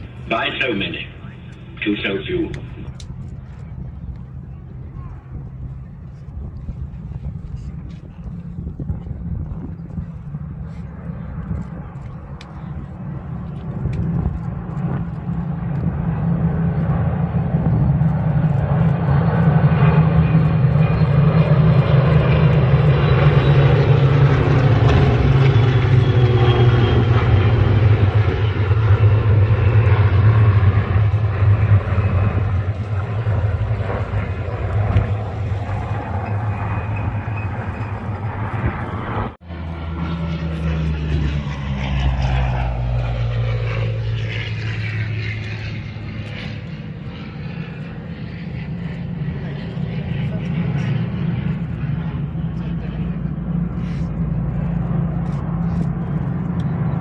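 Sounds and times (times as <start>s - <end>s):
propeller aircraft engines droning: 0.0s - 57.0s.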